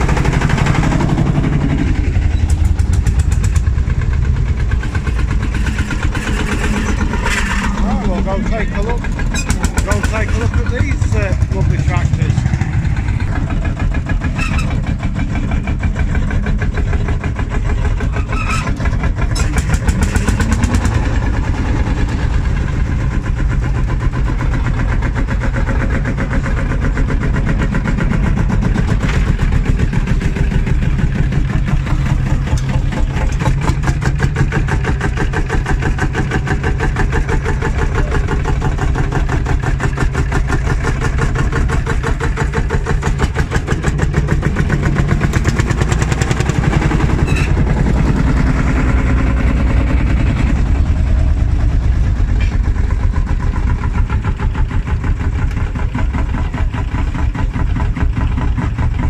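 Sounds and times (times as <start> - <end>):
tractor diesel engines running: 0.0 - 59.0.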